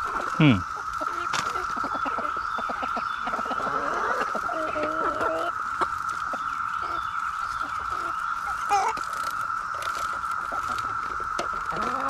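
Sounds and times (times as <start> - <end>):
chickens clucking: 0.0 - 12.0
cicada chorus drone: 0.0 - 12.0.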